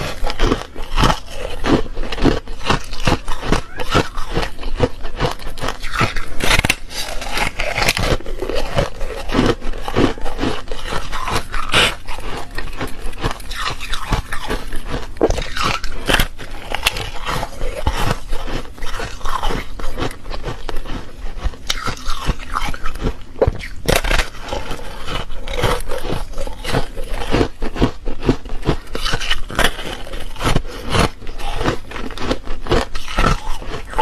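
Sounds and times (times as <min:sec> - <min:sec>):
ice being chewed crunching: 0:00.0 - 0:34.0.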